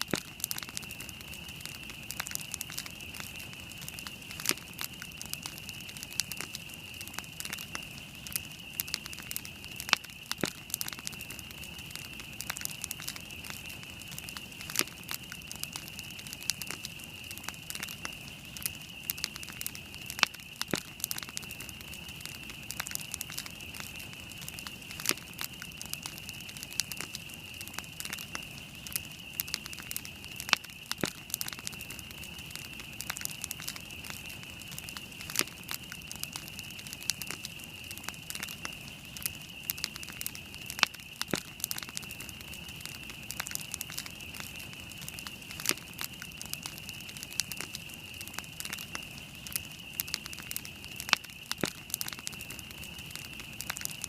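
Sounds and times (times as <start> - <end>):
campfire crackling and popping: 0.0 - 54.0
fire hissing: 0.0 - 54.0.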